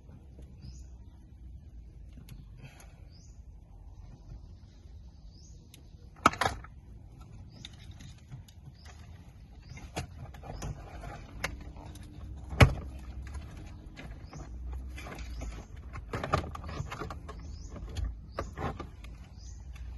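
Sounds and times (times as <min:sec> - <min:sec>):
bird chirps: 0:00.3 - 0:06.2, 0:07.1 - 0:19.9.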